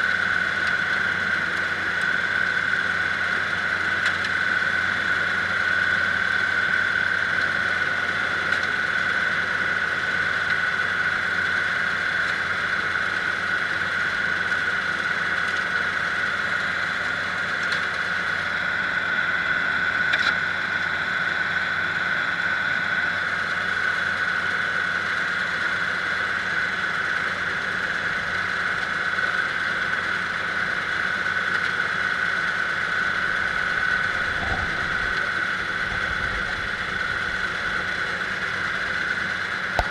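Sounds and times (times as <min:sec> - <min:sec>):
diesel engine running: 0:00.0 - 0:39.9
high-pitched whine: 0:00.0 - 0:39.9.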